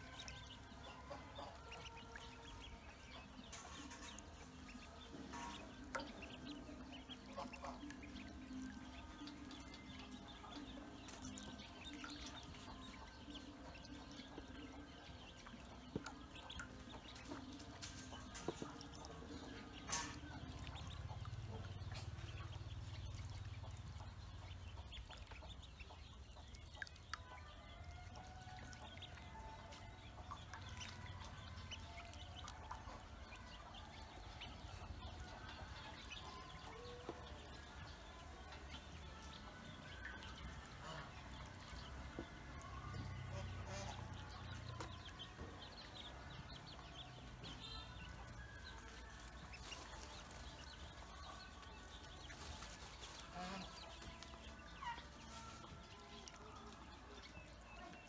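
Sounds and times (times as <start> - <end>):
ducklings splashing in water: 0.0 - 58.0.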